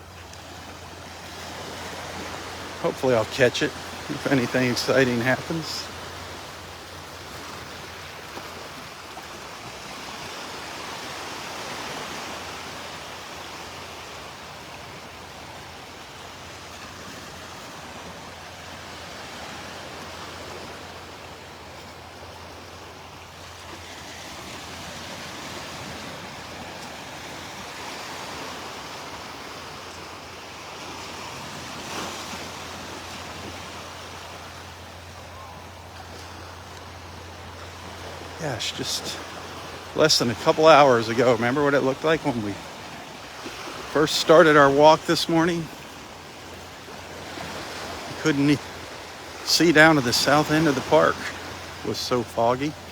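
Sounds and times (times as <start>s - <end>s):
surf breaking on beach: 0.0s - 15.5s, 23.4s - 52.9s.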